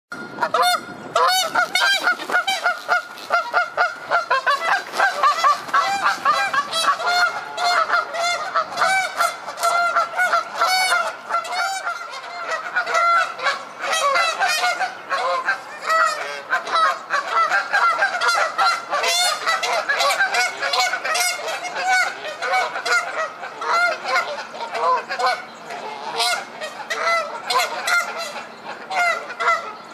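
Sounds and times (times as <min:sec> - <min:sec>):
geese honking: 0:00.2 - 0:29.9.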